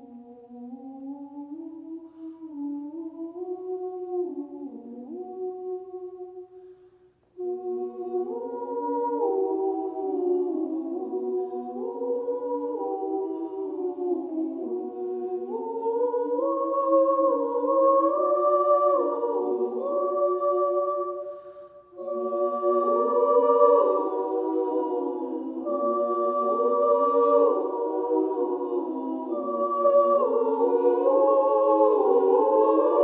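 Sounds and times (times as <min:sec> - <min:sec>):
a cappella choir singing: 0:00.0 - 0:33.0.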